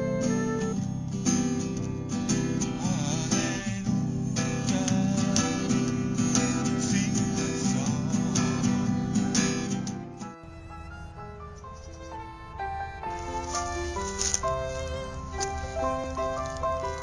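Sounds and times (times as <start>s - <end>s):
strummed acoustic guitar music: 0.0s - 17.0s.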